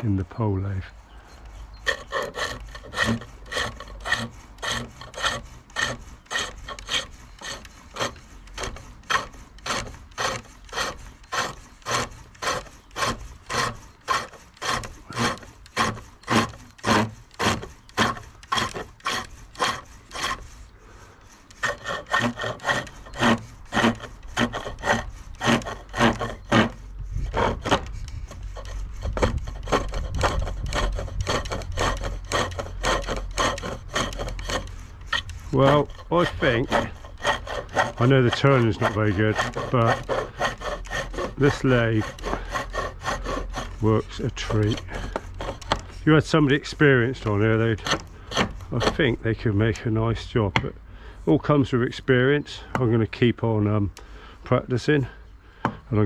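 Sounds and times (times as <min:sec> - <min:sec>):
gouge cutting wood on lathe: 0:01.5 - 0:50.1.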